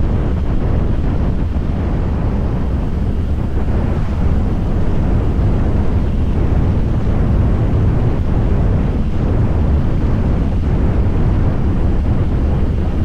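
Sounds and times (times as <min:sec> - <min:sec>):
wind buffeting microphone: 0:00.0 - 0:13.0
motorcycle engine running: 0:01.0 - 0:13.0.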